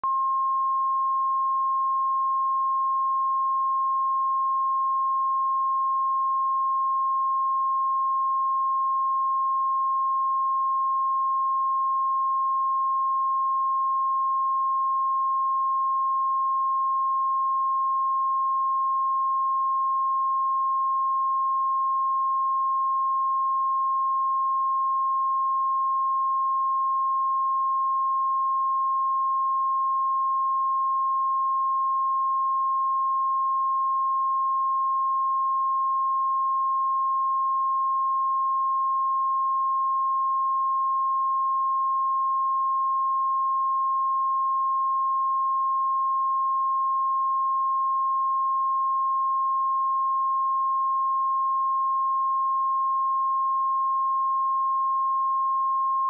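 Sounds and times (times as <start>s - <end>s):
sine wave test tone: 0.0s - 56.0s.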